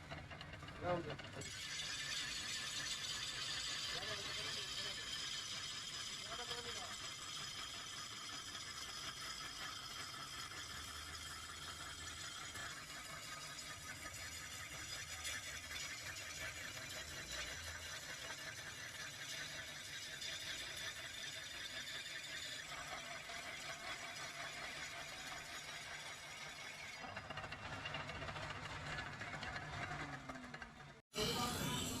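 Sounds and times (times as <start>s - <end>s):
steel grinding on abrasive: 0.8s - 32.0s.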